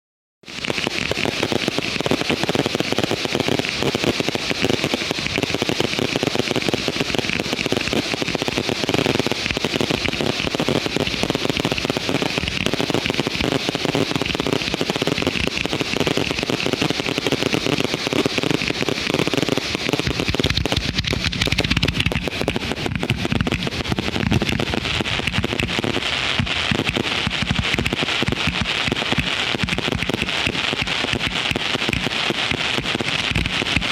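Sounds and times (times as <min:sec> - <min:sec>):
fireworks rapid bangs and crackling: 0:00.4 - 0:33.9
heavy low firework booms: 0:00.4 - 0:33.9.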